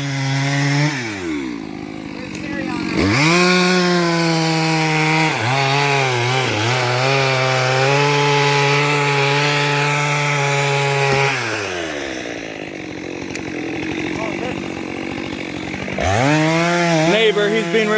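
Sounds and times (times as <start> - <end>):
chainsaw cutting wood: 0.0 - 17.9.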